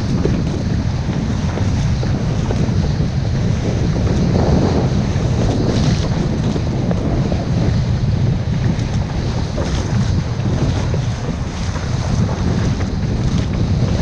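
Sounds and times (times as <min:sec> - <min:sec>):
board planing across water: 0:00.0 - 0:14.0
wind buffeting a microphone: 0:00.0 - 0:14.0.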